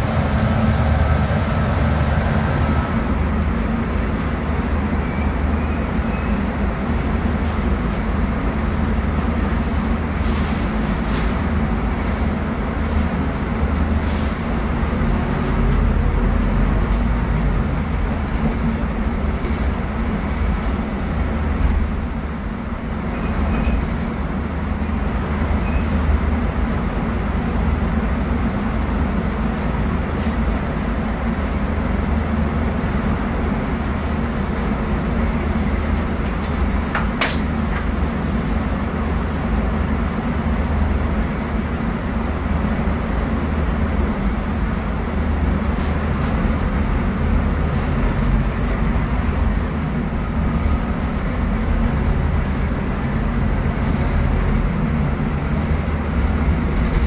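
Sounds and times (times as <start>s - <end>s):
bus diesel engine running: 0.0s - 57.0s
road noise: 0.0s - 57.0s.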